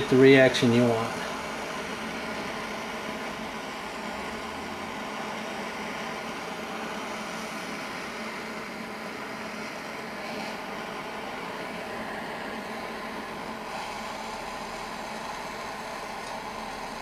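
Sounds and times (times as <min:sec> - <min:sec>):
torch flame hissing: 0:00.0 - 0:16.8.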